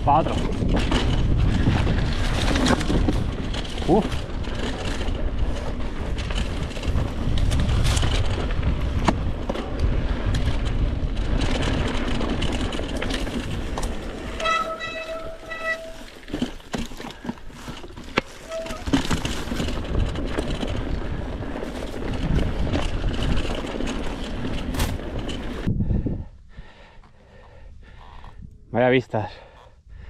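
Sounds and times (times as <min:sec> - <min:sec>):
bike knocks and rattles: 0:00.0 - 0:25.7
bike tyres on stony trail: 0:00.0 - 0:28.7.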